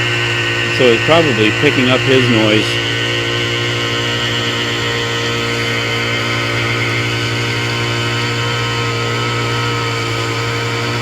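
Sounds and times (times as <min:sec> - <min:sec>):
small gasoline engine running: 0:00.0 - 0:11.0.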